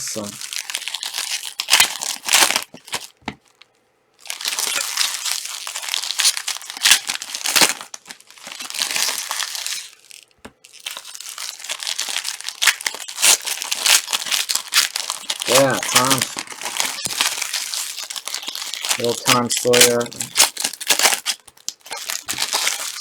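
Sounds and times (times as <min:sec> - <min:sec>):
wrappers tearing and crinkling: 0:00.0 - 0:23.0.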